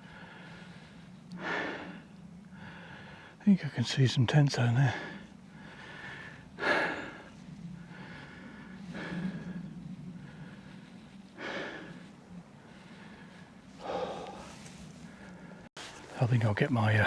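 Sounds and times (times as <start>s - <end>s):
man breathing hard: 0.0s - 3.4s, 4.8s - 15.7s.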